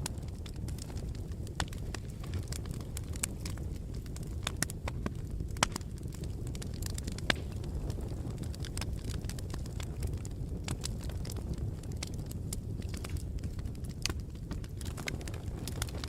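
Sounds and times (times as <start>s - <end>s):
loud fire pops: 0.0s - 16.0s
rumble of fire flames: 0.0s - 16.0s
wood fire crackling: 0.0s - 16.0s.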